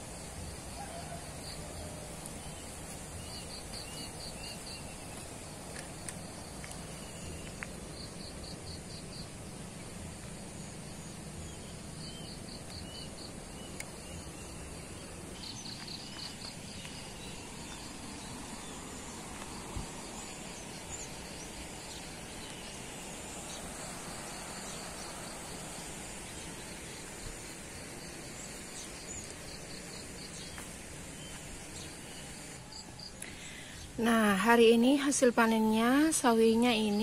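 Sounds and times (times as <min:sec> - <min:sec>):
cricket chirping trills: 0:00.0 - 0:37.0
steady background hiss: 0:00.0 - 0:37.0.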